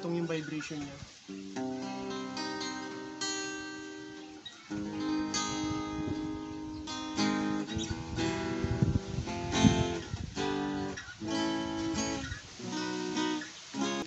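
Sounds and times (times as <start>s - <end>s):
acoustic guitar chords strummed: 0.0s - 14.0s.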